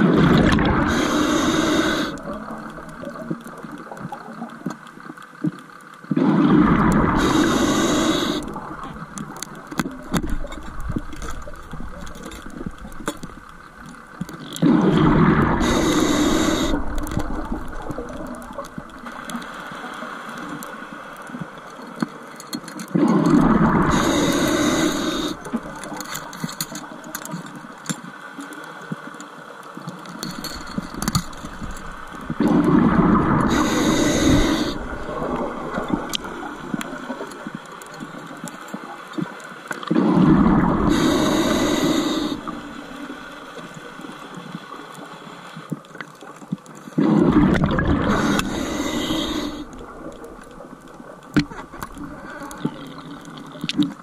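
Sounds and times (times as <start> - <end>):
exhaled bubbles underwater: 0.0 - 4.7, 6.1 - 21.6, 22.9 - 27.1, 30.4 - 38.5, 39.8 - 43.8, 47.0 - 54.0
quiet hiss: 0.0 - 54.0
faint clicking: 0.2 - 54.0.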